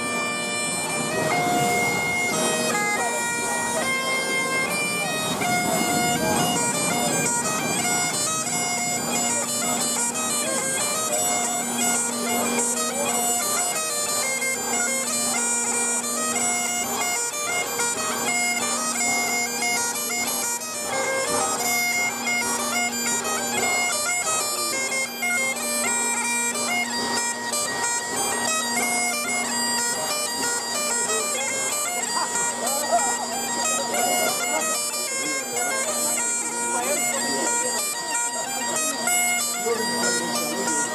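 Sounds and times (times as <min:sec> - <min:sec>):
bagpipes playing a tune: 0:00.0 - 0:40.9.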